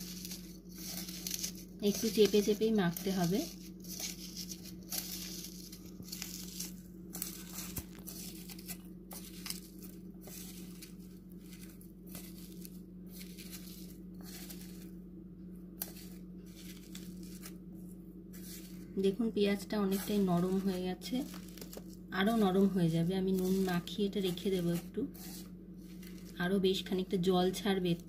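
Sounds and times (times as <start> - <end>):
onion squishing and crunching: 0.0 - 15.0, 15.7 - 28.0
low hum: 0.0 - 28.0.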